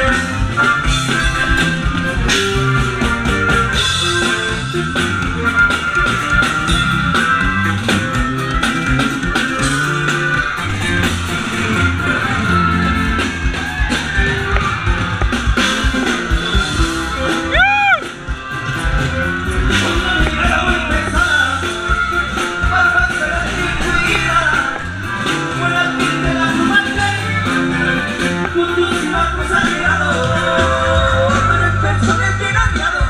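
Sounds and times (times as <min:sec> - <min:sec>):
drum kit beat: 0:00.0 - 0:33.0
electric bass: 0:00.0 - 0:33.0
electric guitar: 0:00.0 - 0:33.0.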